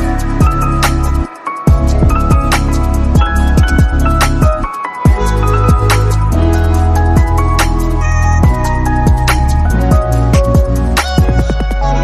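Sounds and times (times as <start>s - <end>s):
held bass and synth notes: 0.0s - 12.0s.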